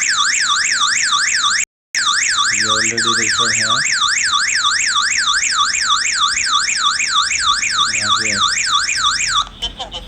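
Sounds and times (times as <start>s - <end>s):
alarm siren wailing: 0.0s - 10.0s.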